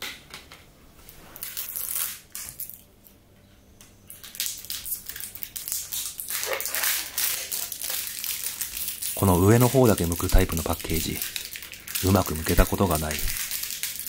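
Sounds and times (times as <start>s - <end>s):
plastic packaging crinkling: 1.4s - 2.9s, 4.2s - 14.0s.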